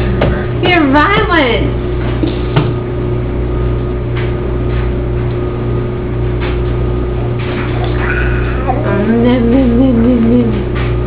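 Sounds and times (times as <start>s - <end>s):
low mechanical hum with whine: 0.0s - 11.0s.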